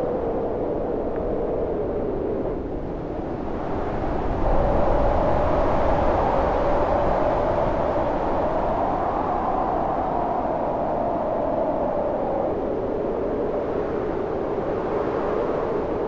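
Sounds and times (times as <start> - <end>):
howling storm wind: 0.0 - 16.0.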